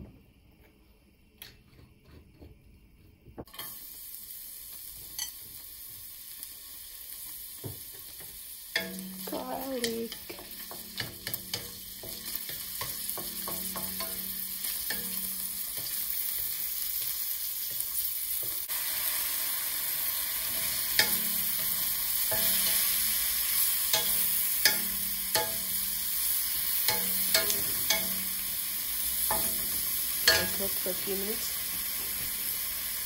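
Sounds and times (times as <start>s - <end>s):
garlic sizzling in oil: 3.4s - 33.0s.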